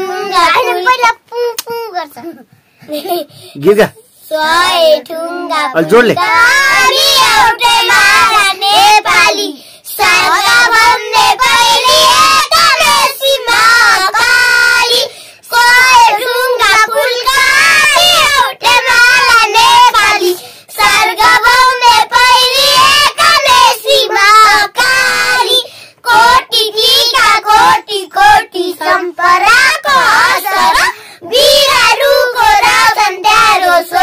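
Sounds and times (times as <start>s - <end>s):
girls singing together: 0.0s - 0.9s, 4.3s - 34.0s.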